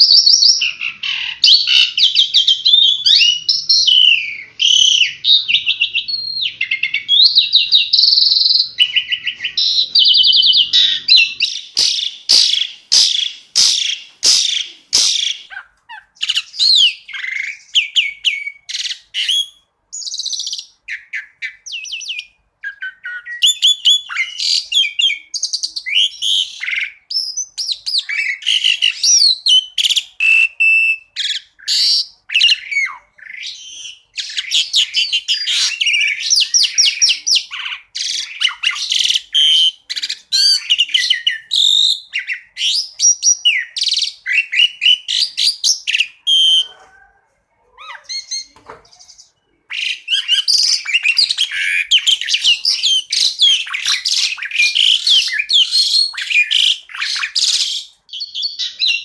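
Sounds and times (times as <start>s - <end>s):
starling singing varied song: 0.0s - 59.0s.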